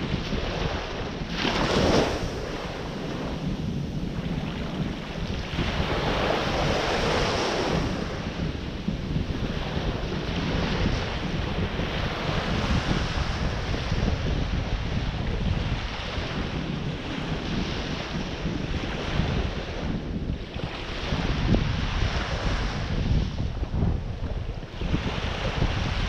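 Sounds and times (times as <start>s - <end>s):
surf breaking on shore: 0.0s - 26.0s
wind buffeting microphone: 0.0s - 26.0s.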